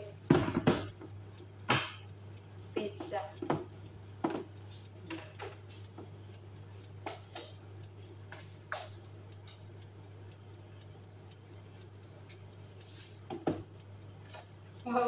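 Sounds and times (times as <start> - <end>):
faint rapid ticking: 0.0 - 15.0.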